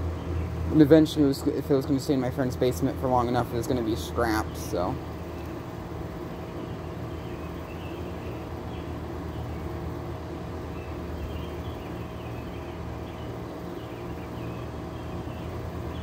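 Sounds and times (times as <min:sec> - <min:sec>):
air conditioner fans rushing: 0:00.0 - 0:16.0
compressor hum: 0:00.0 - 0:16.0.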